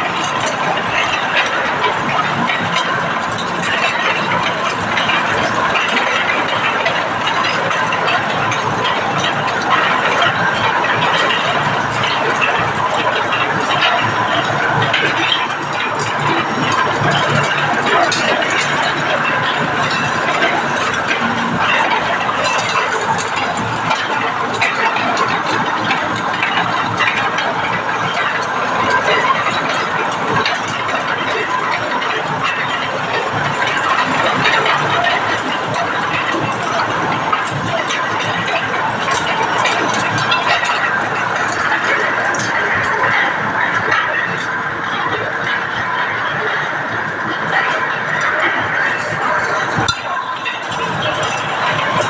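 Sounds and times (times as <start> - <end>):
grinder machine running: 0.0 - 52.0.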